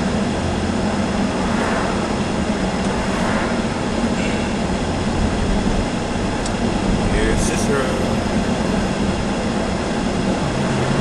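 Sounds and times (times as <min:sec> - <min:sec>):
constant low hum: 0:00.0 - 0:11.0
moving vehicle rumble and hiss: 0:00.0 - 0:11.0.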